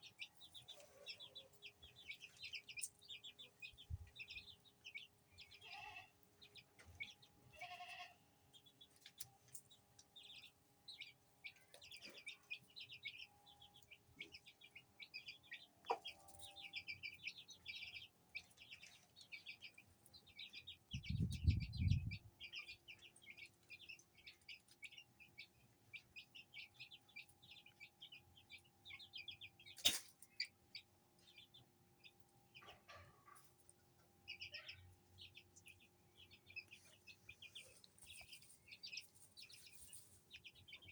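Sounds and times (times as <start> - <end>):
baby chicks peeping: 0.0 - 40.9.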